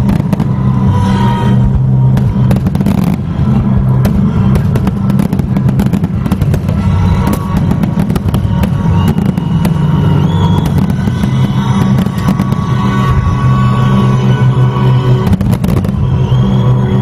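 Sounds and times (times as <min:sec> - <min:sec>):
firework shells bursting and crackling: 0:00.0 - 0:16.9
music playing: 0:00.0 - 0:17.0.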